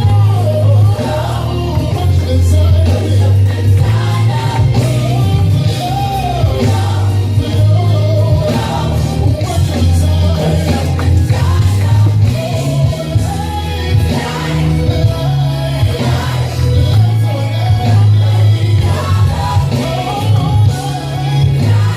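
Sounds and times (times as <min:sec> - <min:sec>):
choir singing with band: 0:00.0 - 0:21.9
heavy bass line: 0:00.0 - 0:21.9.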